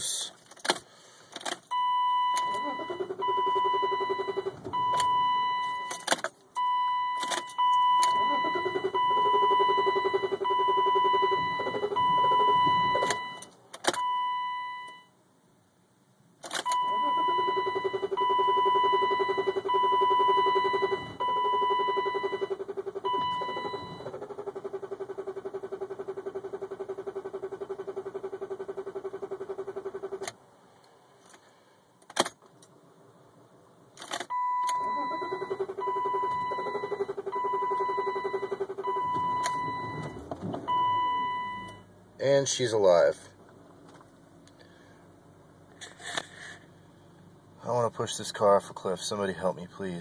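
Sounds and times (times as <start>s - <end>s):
car starter cranking with whine: 0.0s - 14.2s, 16.4s - 30.4s, 34.0s - 50.0s.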